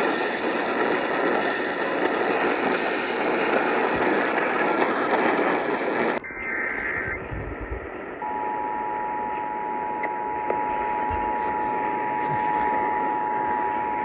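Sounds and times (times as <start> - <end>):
loud radio hiss: 0.0 - 14.0.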